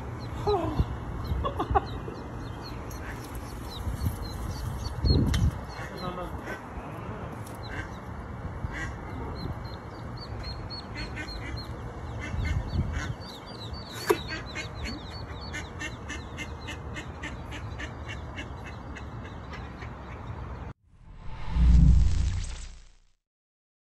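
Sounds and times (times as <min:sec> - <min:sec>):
ducklings peeping: 0:00.1 - 0:20.4.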